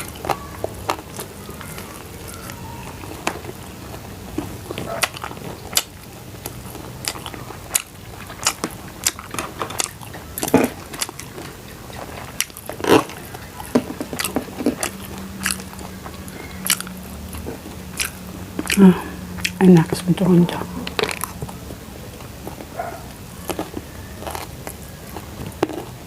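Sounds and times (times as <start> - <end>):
person chewing crunchy food: 0.0 - 19.9, 20.6 - 26.0.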